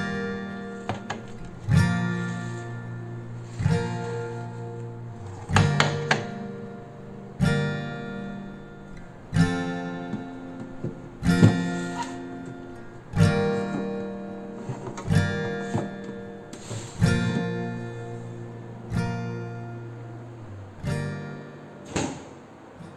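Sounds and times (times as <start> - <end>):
guitar strumming chords: 0.0 - 22.9.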